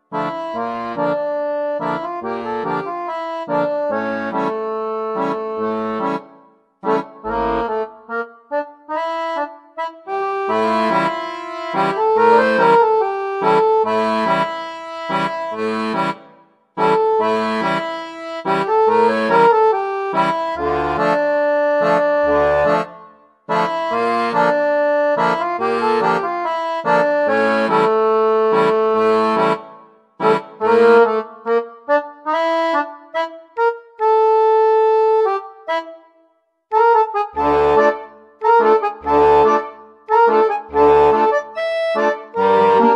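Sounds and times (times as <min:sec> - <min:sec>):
accordion melody with bass and chords: 0:00.0 - 0:42.9.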